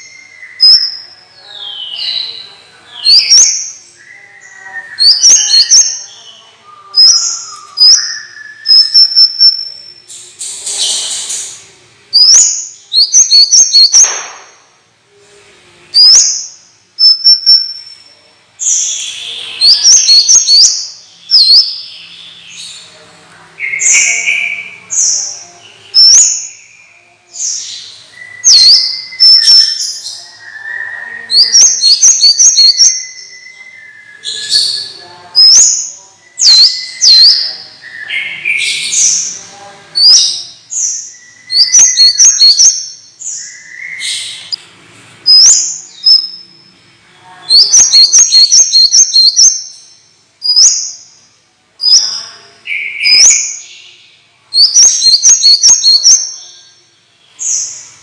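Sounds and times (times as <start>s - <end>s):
songbird singing: 0.0s - 44.7s, 45.3s - 58.0s.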